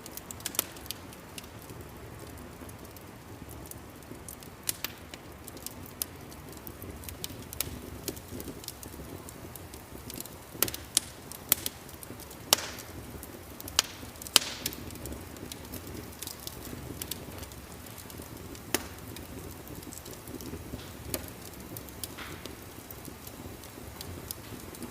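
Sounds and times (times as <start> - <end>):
wood fire crackling and popping: 0.0 - 24.9.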